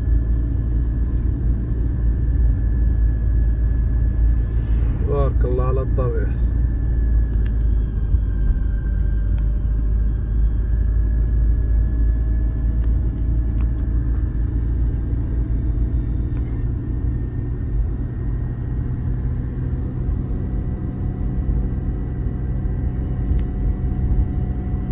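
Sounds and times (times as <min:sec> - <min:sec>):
engine and tyre rumble: 0:00.0 - 0:24.9
faint steady whine: 0:00.0 - 0:24.9.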